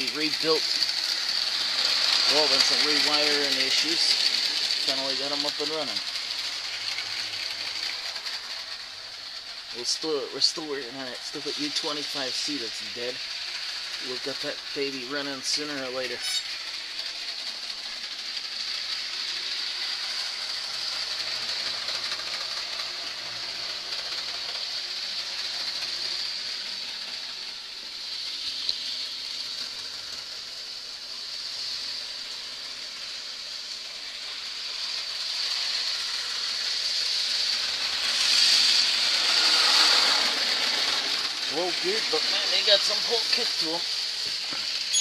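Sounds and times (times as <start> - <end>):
model train motors whirring: 0.0 - 45.0.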